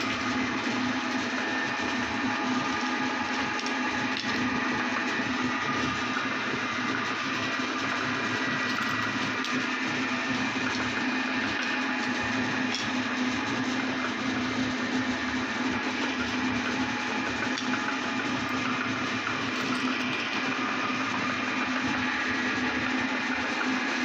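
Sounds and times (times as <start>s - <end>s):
electric meat grinder running: 0.0s - 24.0s.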